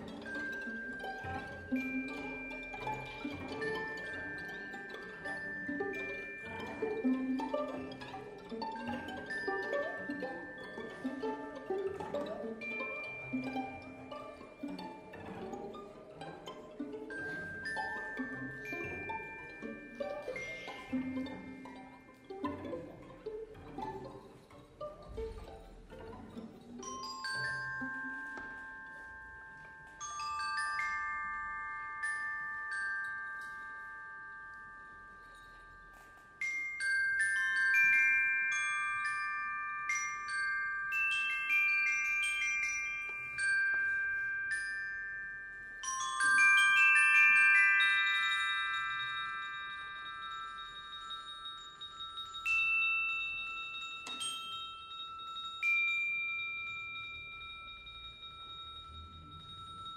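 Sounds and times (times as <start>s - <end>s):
bell-like mallet percussion notes: 0.0s - 59.9s.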